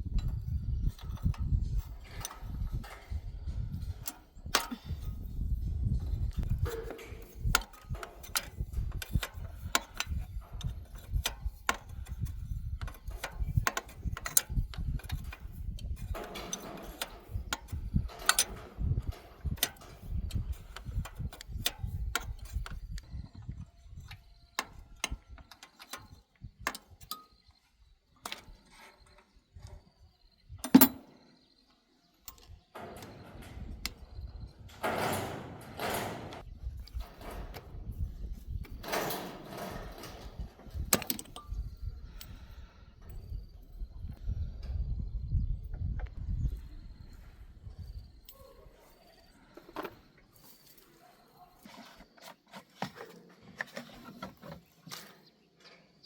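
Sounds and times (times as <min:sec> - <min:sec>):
hand tools clinking on metal: 0:00.1 - 0:29.6, 0:30.6 - 0:31.3, 0:32.1 - 0:42.8, 0:48.2 - 0:55.9.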